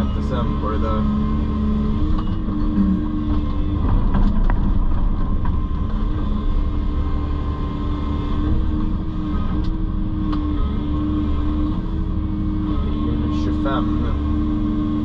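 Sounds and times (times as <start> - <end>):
diesel engine running: 0.0 - 15.0
humming tone: 0.0 - 15.0.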